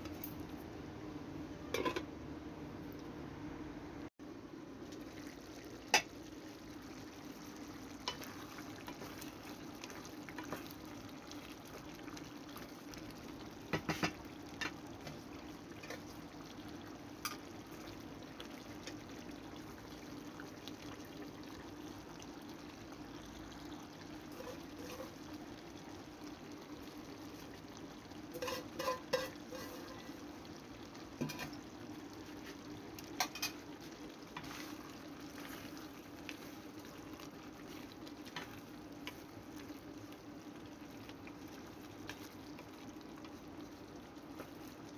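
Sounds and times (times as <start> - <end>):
stew simmering in a pot: 0.0 - 44.9.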